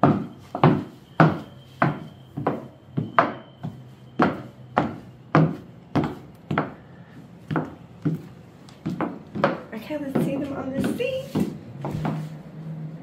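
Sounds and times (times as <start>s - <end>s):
high-heel footsteps on hard floor: 0.0s - 12.7s.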